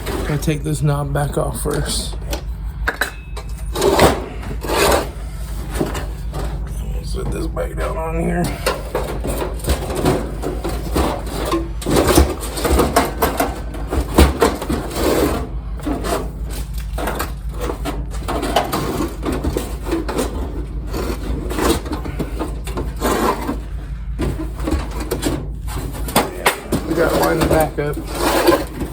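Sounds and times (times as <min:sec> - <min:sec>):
sheet metal clanking and scraping: 0:00.0 - 0:28.9
steady low hum: 0:00.0 - 0:28.9.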